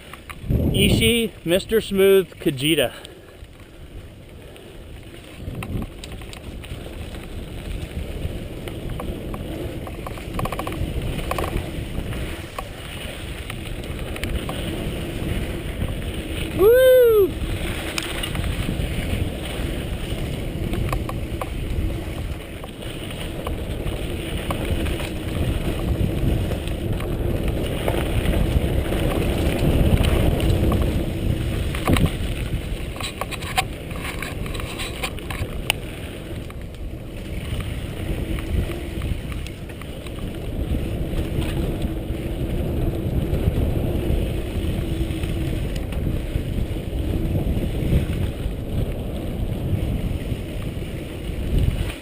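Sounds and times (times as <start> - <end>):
bike rattling and clicking: 0.0 - 52.0
tyres rumbling on dirt: 0.0 - 52.0
wind on microphone: 0.0 - 52.0.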